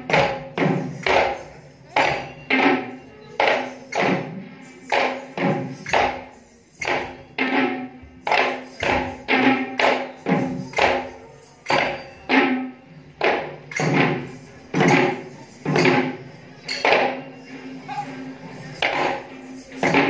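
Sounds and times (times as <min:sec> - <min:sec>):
hand drums beating: 0:00.0 - 0:20.0.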